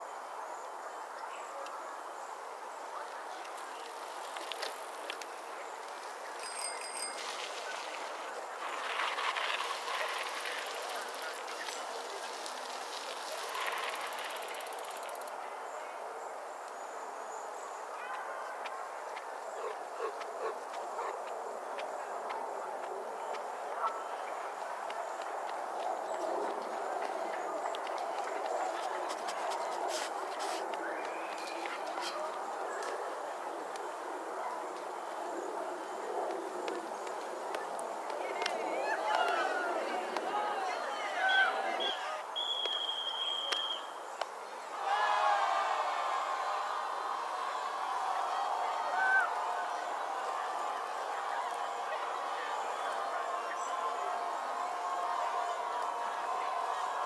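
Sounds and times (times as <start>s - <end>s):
murmur of distant voices: 0.0s - 57.0s.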